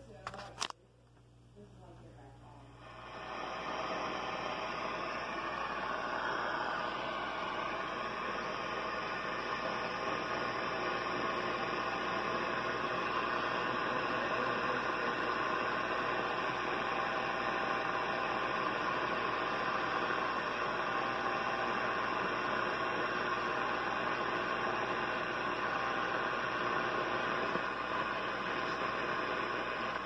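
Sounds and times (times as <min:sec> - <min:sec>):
shortwave radio static and hiss: 0:01.6 - 0:30.0.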